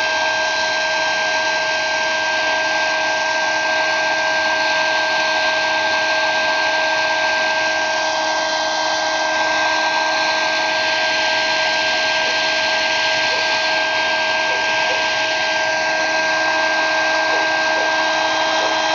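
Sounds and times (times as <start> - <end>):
hair dryer running: 0.0 - 18.9.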